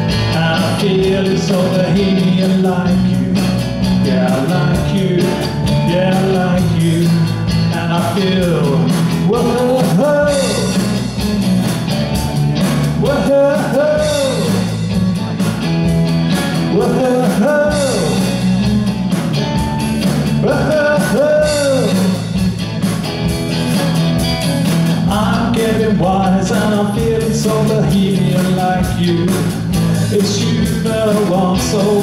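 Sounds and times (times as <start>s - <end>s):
bass line: 0.0s - 32.0s
drum kit: 0.0s - 32.0s
electric guitar: 0.0s - 32.0s.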